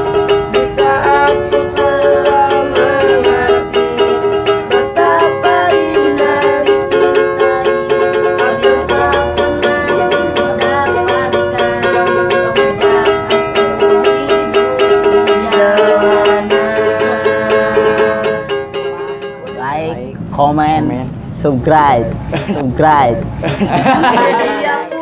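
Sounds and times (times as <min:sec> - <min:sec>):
man and woman singing: 0:00.0 - 0:18.4, 0:21.6 - 0:25.0
ukulele strumming: 0:00.0 - 0:20.1, 0:21.8 - 0:25.0.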